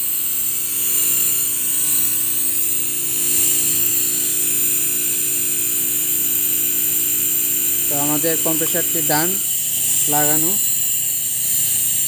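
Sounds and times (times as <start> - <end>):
air conditioner compressor humming: 0.0 - 12.0.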